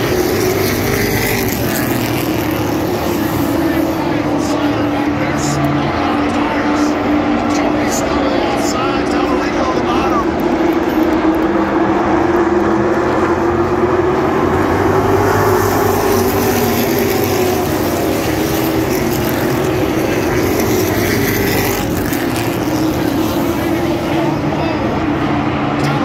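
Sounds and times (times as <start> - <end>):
stock car engines racing: 0.0 - 26.0.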